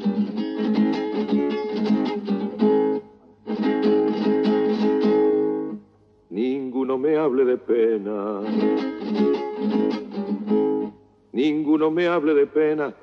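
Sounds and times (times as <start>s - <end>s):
acoustic guitar strumming chords: 0.0s - 6.0s, 6.6s - 11.1s.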